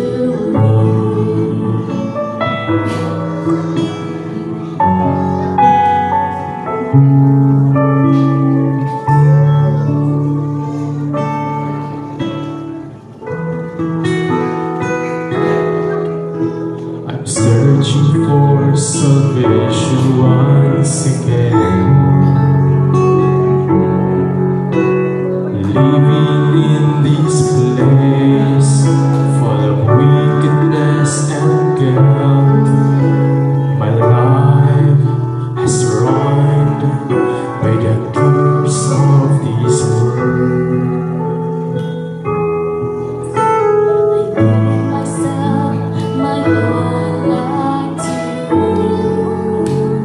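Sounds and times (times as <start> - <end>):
man singing into microphone: 0.0 - 6.9, 14.9 - 42.3, 44.2 - 50.0
instrumental accompaniment: 0.0 - 50.0.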